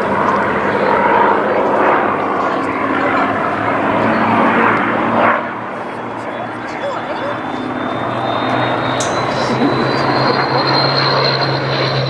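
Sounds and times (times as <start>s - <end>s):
propeller plane flying overhead: 0.0s - 12.0s.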